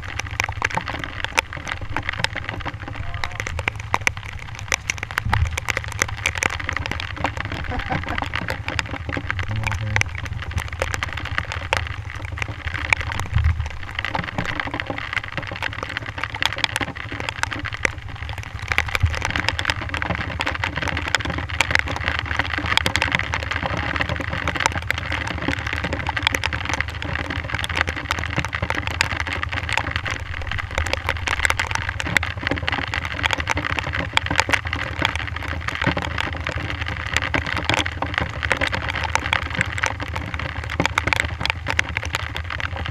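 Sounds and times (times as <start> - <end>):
dirt bike engine running: 0.0 - 42.9
rain pattering on camera: 0.0 - 42.9.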